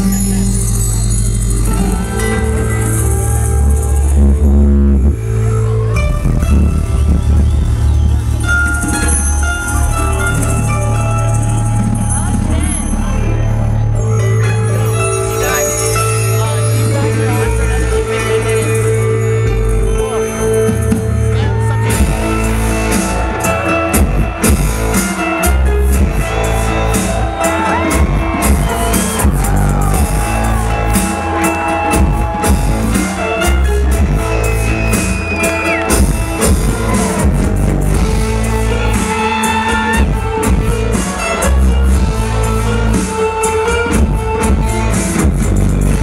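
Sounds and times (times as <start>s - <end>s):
loud electronic rock music: 0.0s - 46.0s.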